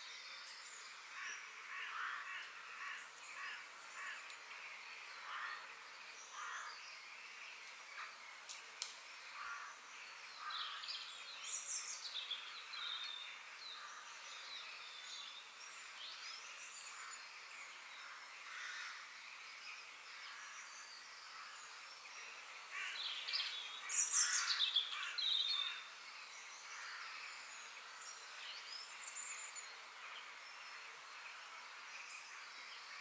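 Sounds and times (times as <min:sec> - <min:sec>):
forest ambience hiss: 0:00.0 - 0:33.0
songbirds chirping: 0:00.0 - 0:33.0.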